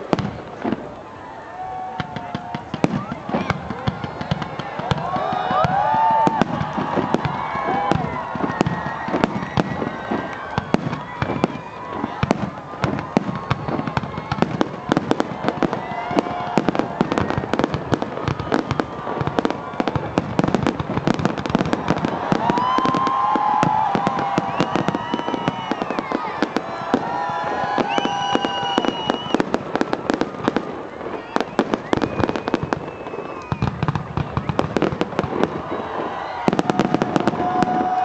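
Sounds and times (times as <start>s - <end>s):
fireworks bangs and crackling: 0.0s - 38.0s.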